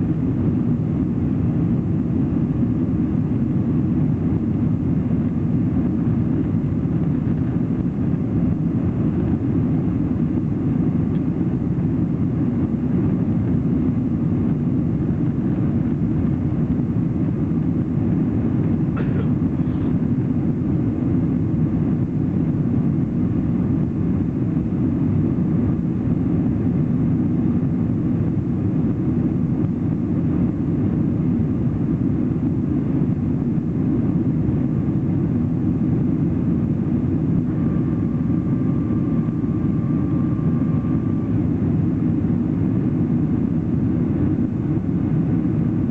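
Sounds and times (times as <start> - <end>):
airplane cabin engine noise: 0.0 - 45.9.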